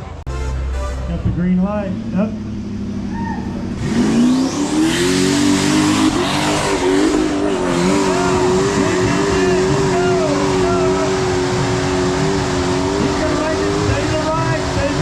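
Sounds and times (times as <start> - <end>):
loud rushing noise: 0.0 - 15.0
engine revving at full throttle: 1.8 - 15.0.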